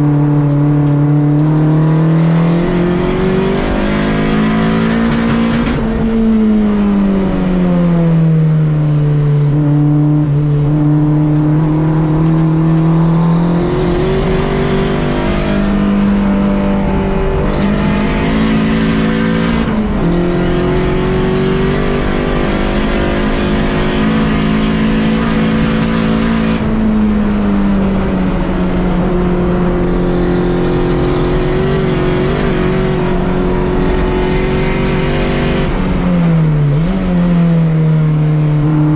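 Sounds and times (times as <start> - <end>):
car engine running hard: 0.0 - 38.9.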